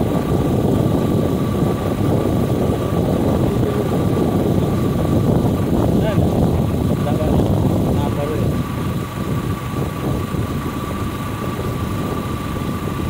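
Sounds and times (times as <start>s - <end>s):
thin steady whine: 0.0s - 13.0s
vehicle engine and road noise: 0.0s - 13.0s
wind rumble on microphone: 0.0s - 13.0s.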